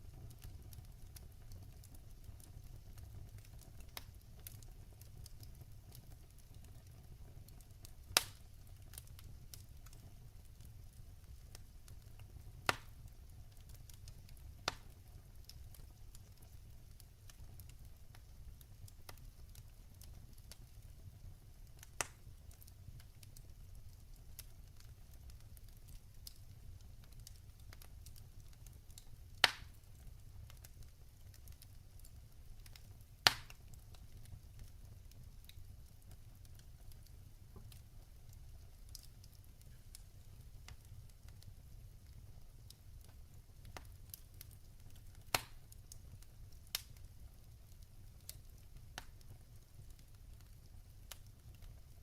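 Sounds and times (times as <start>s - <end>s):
log fire crackling: 0.0s - 52.0s
burning wood popping: 0.1s - 20.9s, 21.7s - 52.0s.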